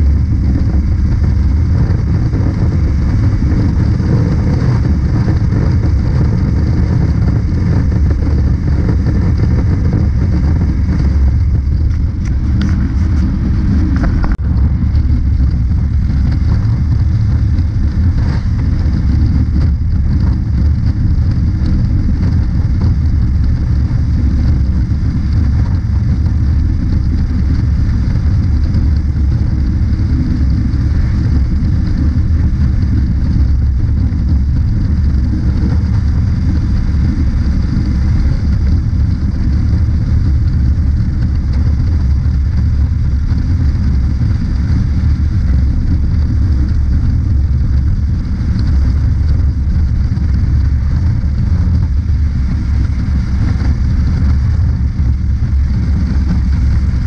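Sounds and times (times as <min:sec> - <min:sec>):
motorcycle engine rumble: 0:00.0 - 0:57.0
wind noise: 0:00.0 - 0:57.0.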